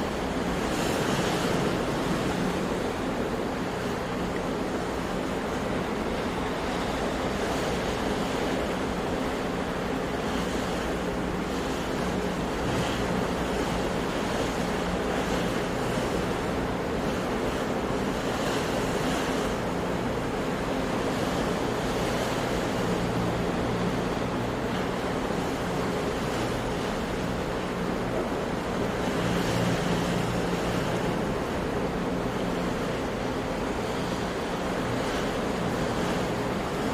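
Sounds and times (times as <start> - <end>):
sea waves washing in: 0.0 - 36.9.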